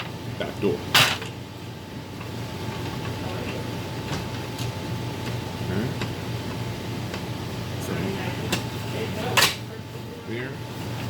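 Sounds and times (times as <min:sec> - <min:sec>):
low mechanical hum: 0:00.0 - 0:11.0
thin steady whine: 0:00.0 - 0:11.0.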